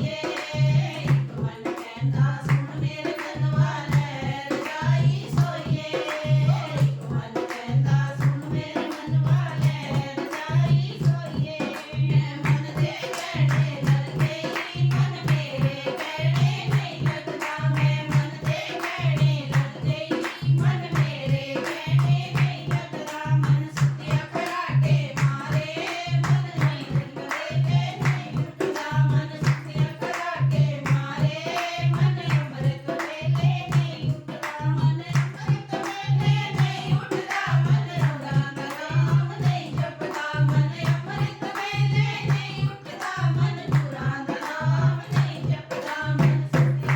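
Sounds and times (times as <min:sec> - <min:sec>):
person singing devotional song: 0:00.0 - 0:46.9
hand-clapping: 0:00.2 - 0:46.9.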